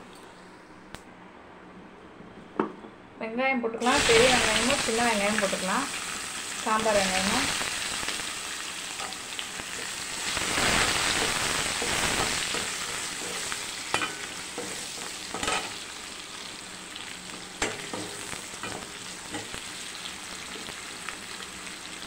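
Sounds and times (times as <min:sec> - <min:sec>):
onions sizzling in hot oil: 0:03.8 - 0:22.0.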